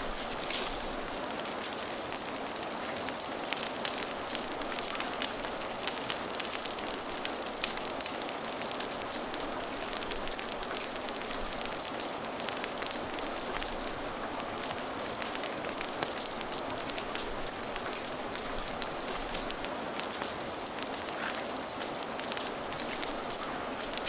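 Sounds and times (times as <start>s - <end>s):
fire crackling: 0.0s - 24.0s
steady rain hiss: 0.0s - 24.0s.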